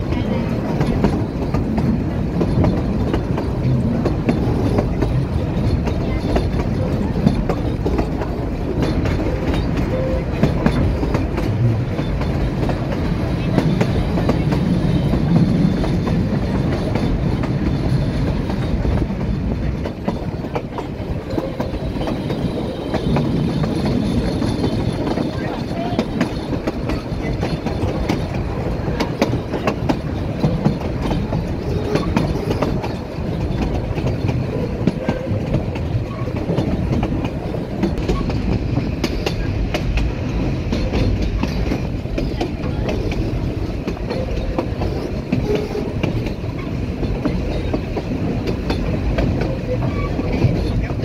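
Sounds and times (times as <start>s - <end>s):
train wheels rolling on rails: 0.0s - 51.0s.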